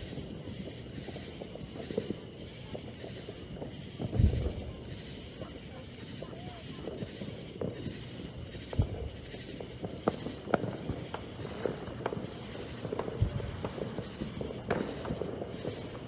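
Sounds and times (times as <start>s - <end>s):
fireworks pops and booms: 0.0s - 16.0s.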